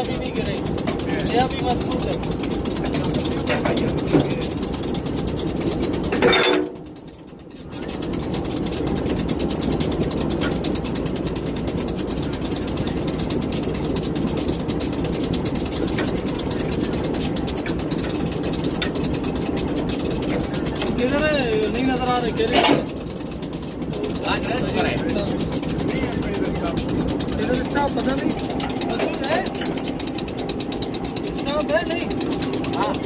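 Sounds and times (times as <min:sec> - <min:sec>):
locomotive engine idling: 0:00.0 - 0:33.0.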